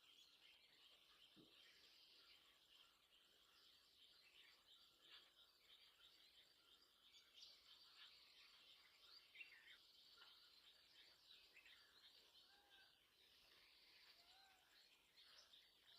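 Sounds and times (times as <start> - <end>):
songbirds chirping and twittering: 0.0 - 15.9.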